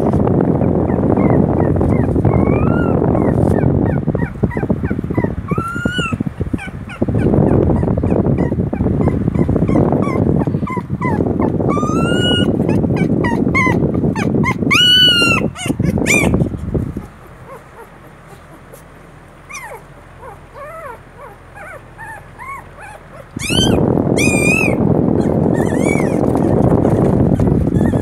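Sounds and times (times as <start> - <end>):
loud steady rumbling: 0.0 - 28.0
puppies whimpering and squealing: 0.2 - 28.0.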